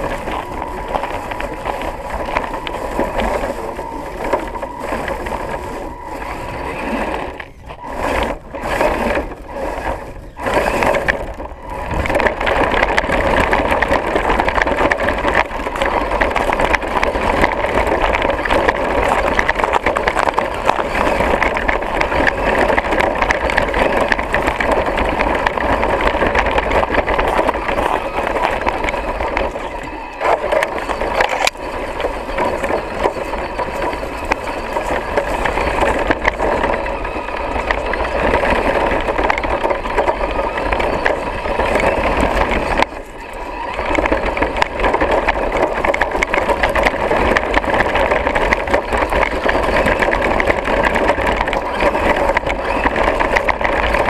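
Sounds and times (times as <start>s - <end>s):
chassis and tyres rattling: 0.0s - 54.0s
electric motor and drivetrain whine: 0.0s - 54.0s.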